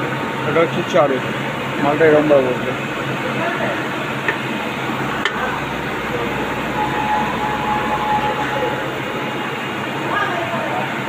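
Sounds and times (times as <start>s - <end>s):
machine shop rumble and hiss: 0.0s - 11.0s
thin steady whine: 1.0s - 11.0s.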